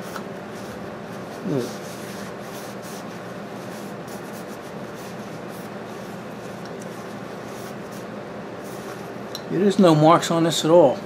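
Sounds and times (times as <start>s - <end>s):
paper towel rubbing metal: 0.0s - 8.9s
steady low hum: 0.0s - 11.0s.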